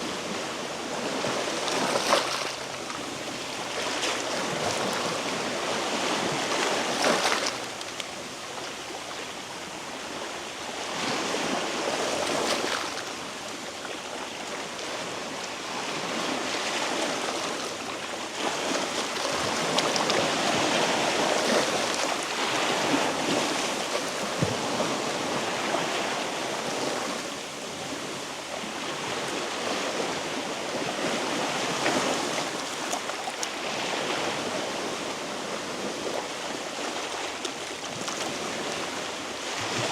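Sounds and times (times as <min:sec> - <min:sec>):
waves washing against rocky shore: 0:00.0 - 0:39.9.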